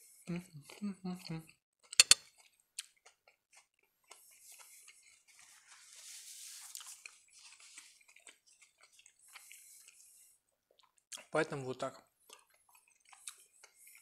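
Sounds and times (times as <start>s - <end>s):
man chewing with mouth closed: 0.1s - 5.8s, 6.7s - 11.3s, 12.0s - 14.0s.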